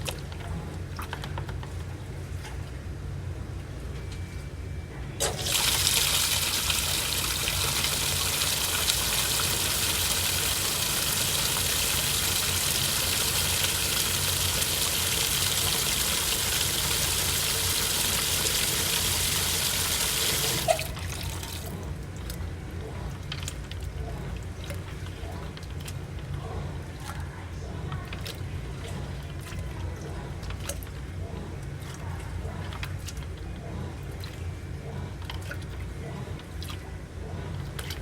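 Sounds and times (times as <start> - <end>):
water filling washing machine: 0.0 - 2.8, 5.2 - 38.0.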